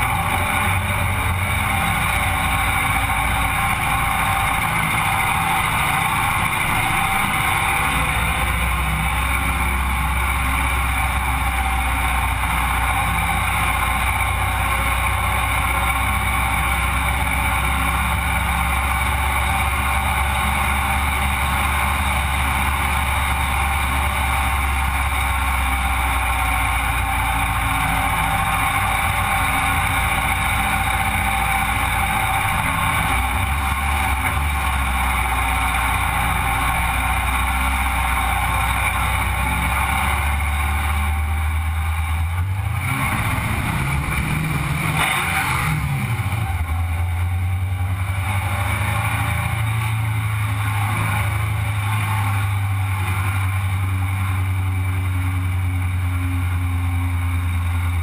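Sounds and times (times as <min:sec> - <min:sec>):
buggy engine running: 0:00.0 - 0:58.0
wind and road noise: 0:00.0 - 0:58.0.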